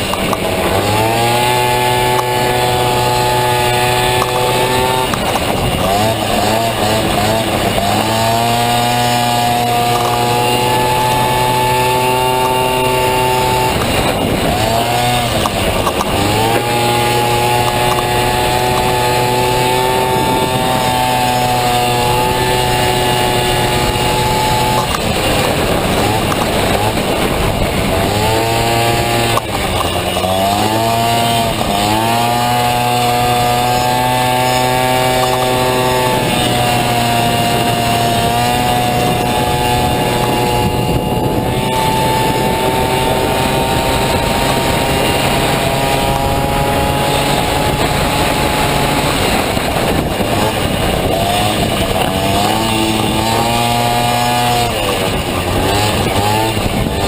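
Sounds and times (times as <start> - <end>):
two-stroke scooter engine revving: 0.0 - 57.0.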